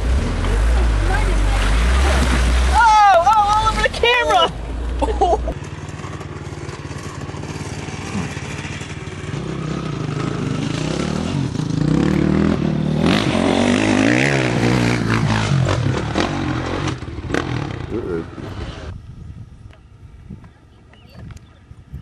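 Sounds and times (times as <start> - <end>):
off-road vehicle engine revving: 0.0 - 18.9.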